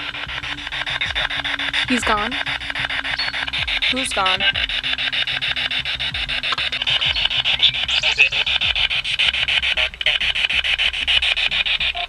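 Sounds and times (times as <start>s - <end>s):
choppy pulsing radio static: 0.0s - 12.0s.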